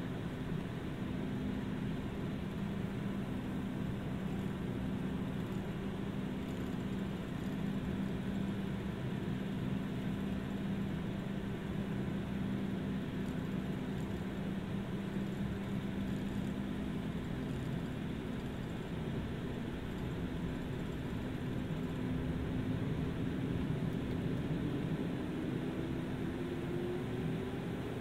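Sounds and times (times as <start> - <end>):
turboprop engine idling drone: 0.0 - 28.0.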